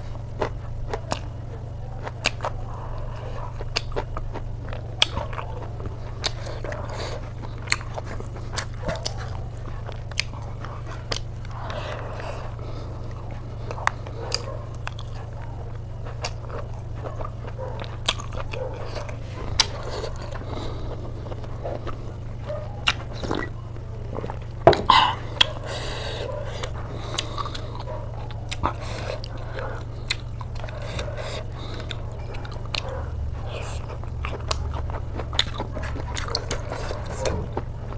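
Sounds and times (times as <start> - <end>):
person chewing and biting food: 0.0 - 37.9
steady low hum: 0.0 - 37.9.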